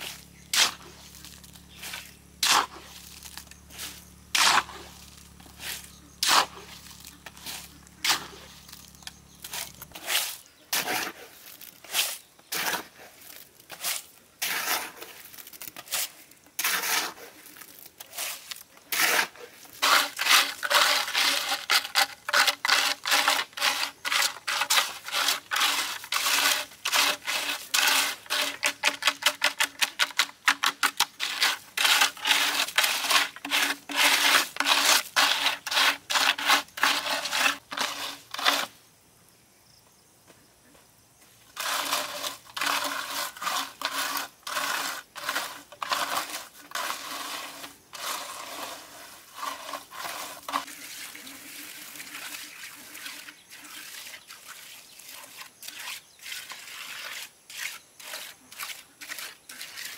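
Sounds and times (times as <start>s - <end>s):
trowel scraping wet concrete: 0.0s - 38.8s, 41.5s - 59.9s.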